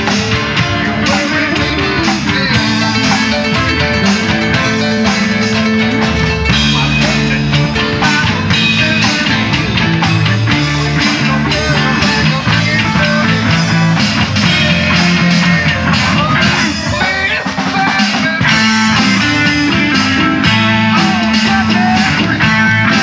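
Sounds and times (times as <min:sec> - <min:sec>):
electric bass line: 0:00.0 - 0:23.0
electric guitars: 0:00.0 - 0:23.0
steady beat: 0:00.0 - 0:23.0.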